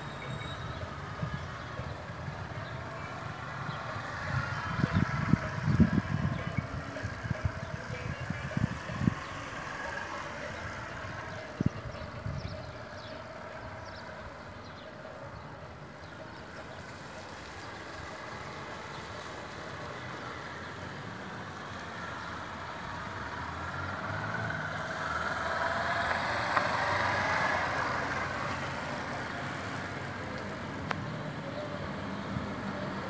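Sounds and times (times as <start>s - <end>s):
motorcycle running at low speed: 0.2s - 33.0s.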